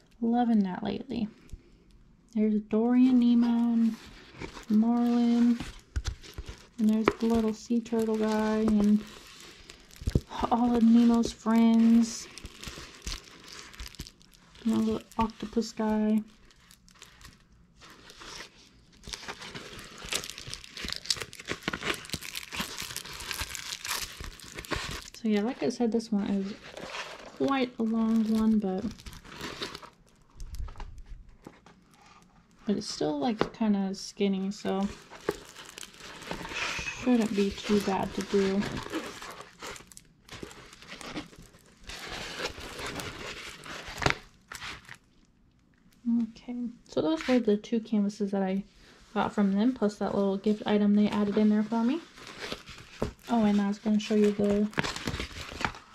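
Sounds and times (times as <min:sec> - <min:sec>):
plastic film crinkling: 0:02.9 - 0:33.6, 0:34.3 - 0:45.3, 0:49.3 - 0:55.9.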